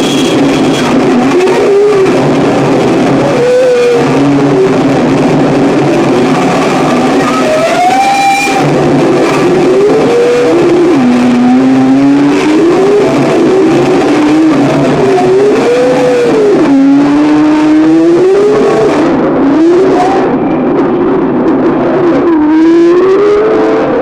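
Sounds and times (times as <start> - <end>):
distorted noise wall: 0.0 - 24.0.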